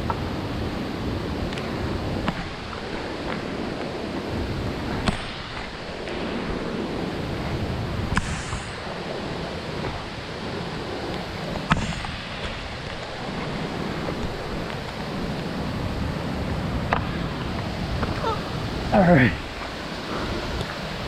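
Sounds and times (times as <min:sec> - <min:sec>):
falling water rushing: 0:00.0 - 0:21.0
wind: 0:00.0 - 0:21.0.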